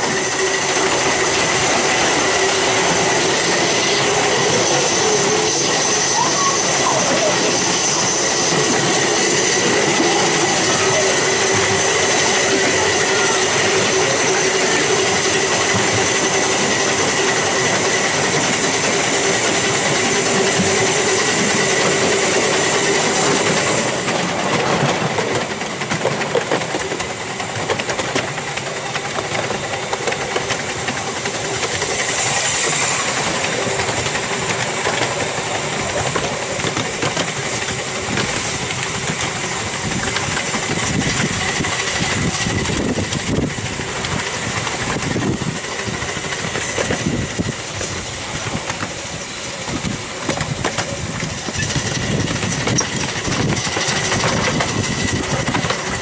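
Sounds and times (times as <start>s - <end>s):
miniature train running on rails: 0.0s - 56.0s.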